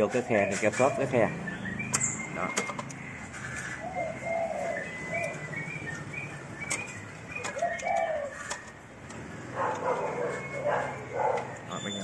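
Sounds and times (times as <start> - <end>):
bird calls with low arching notes: 0.0 - 12.0.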